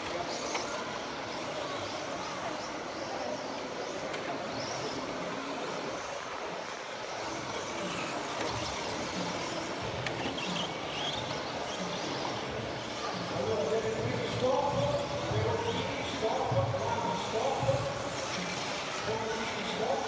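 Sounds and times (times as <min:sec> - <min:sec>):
busy hall noise: 0:00.0 - 0:20.0
model cars running on dirt: 0:00.0 - 0:20.0.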